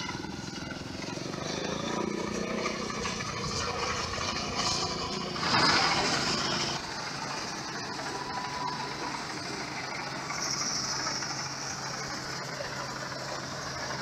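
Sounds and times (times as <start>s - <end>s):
combine harvester engine running: 0.0s - 14.0s
loud rush of noise: 0.0s - 14.0s.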